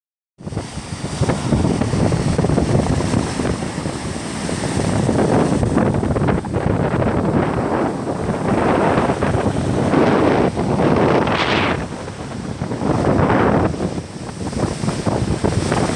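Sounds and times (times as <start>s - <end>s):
heavy surf breaking: 0.4s - 15.9s
wind buffeting microphone: 0.4s - 15.9s.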